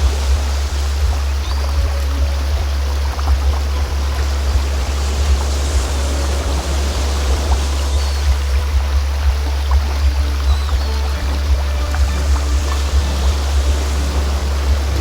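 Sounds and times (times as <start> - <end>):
low-pitched drone: 0.0 - 15.0
stream rushing: 0.0 - 15.0.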